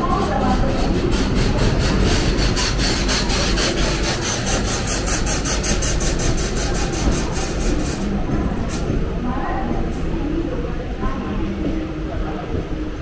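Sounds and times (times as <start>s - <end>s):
passing train wheels rumbling: 0.0s - 13.0s.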